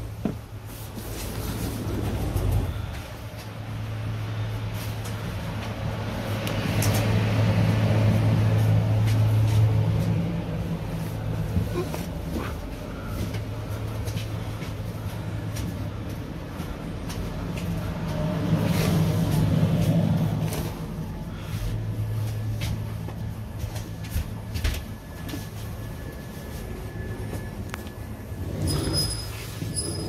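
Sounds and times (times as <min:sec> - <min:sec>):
train interior hum: 0:00.0 - 0:30.0.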